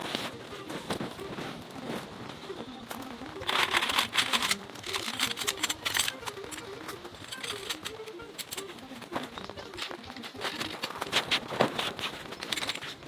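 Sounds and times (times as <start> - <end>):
rustling and crinkling handling noise: 0.0 - 13.0.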